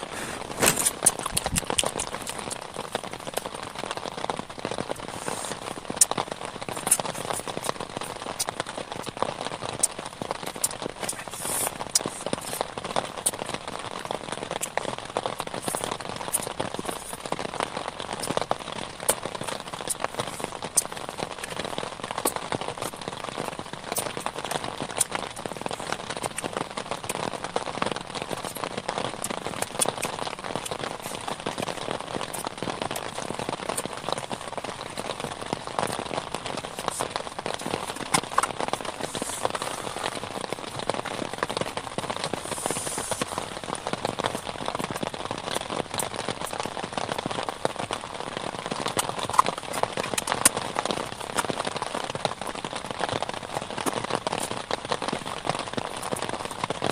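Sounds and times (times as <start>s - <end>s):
heavy rain falling: 0.0s - 56.9s
raindrops ticking close by: 0.0s - 56.9s.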